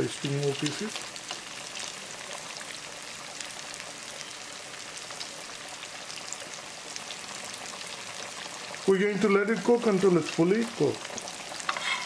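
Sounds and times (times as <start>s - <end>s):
deep fryer oil sizzling: 0.0s - 12.0s.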